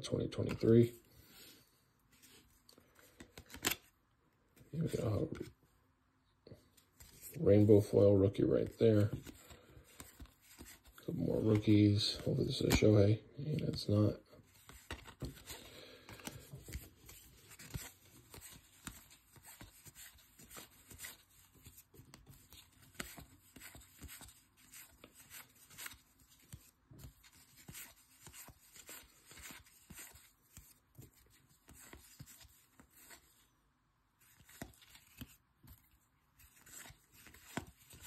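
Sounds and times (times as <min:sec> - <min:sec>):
trading cards rustling and flicking: 0:00.1 - 0:01.5, 0:02.1 - 0:05.6, 0:06.6 - 0:33.5, 0:34.2 - 0:38.0.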